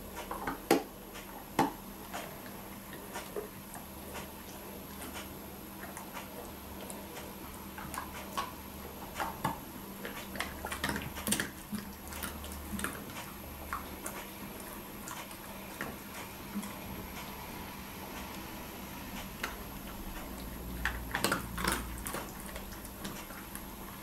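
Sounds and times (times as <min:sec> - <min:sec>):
dog chewing food: 0:00.0 - 0:17.4, 0:19.2 - 0:24.0.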